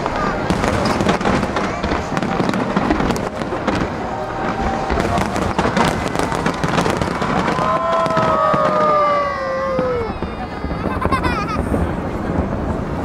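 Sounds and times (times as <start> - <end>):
fireworks cracks and bangs: 0.0 - 13.0
falling firework whistles: 0.4 - 11.9.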